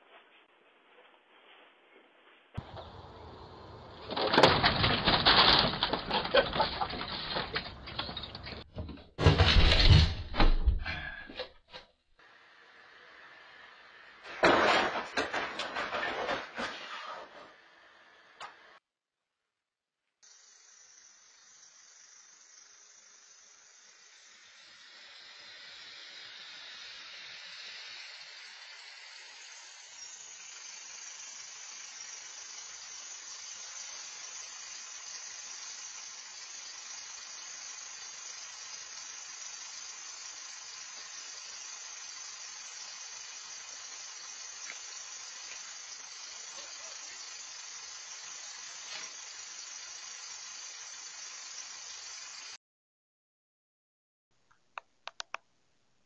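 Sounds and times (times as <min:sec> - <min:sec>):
steady hiss: 0:00.0 - 0:08.3, 0:12.2 - 0:18.8, 0:20.2 - 0:52.6.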